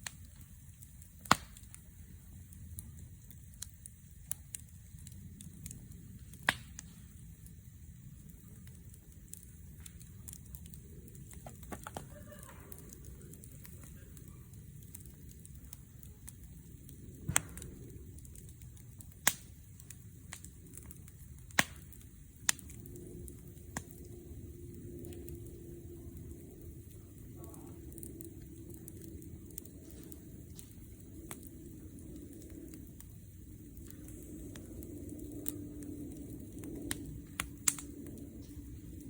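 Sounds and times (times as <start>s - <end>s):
burning wood popping: 0.0s - 39.0s
wood fire rumbling and crackling: 0.0s - 39.0s.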